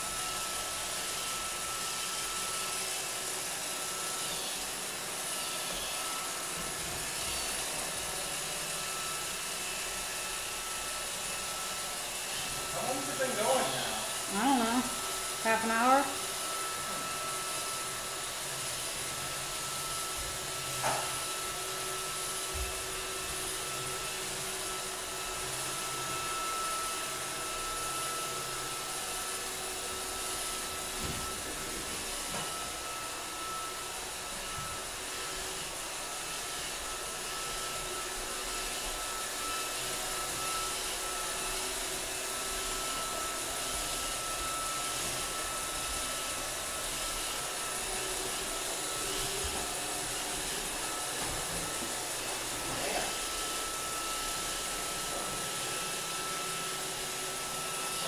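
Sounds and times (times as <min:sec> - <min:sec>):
appliance motor whirring: 0:00.1 - 0:58.0.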